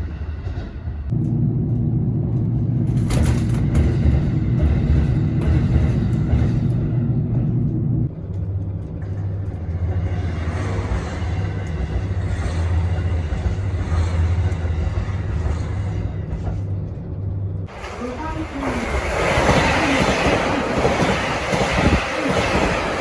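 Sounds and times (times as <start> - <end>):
train rumbling past: 0.0 - 23.0
wheel and track noise: 0.0 - 23.0.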